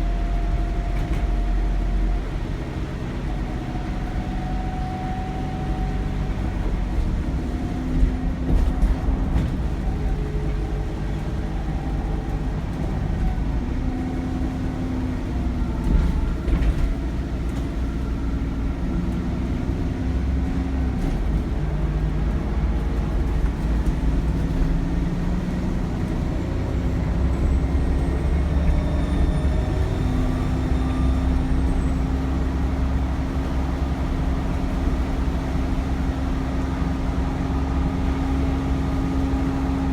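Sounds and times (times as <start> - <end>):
diesel bus engine rumble: 0.0 - 39.9.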